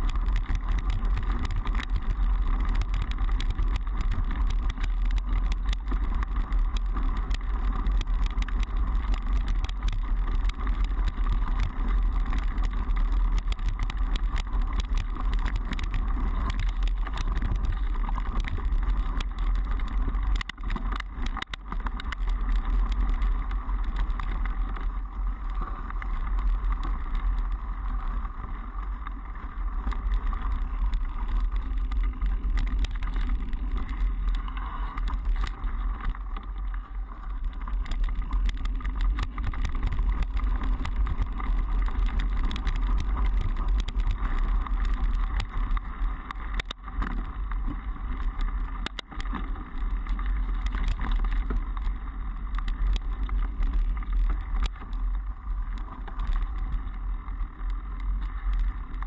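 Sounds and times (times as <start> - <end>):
bike rattling and clicking: 0.0 - 59.0
wind rumble on microphone: 0.0 - 59.0.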